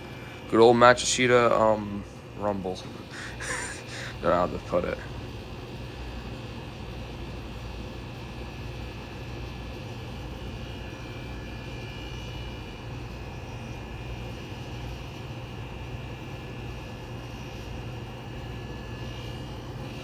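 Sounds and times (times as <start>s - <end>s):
air conditioner compressor rumble: 0.0s - 20.0s
faint high whine: 0.0s - 20.0s
fan rushing: 0.0s - 20.0s.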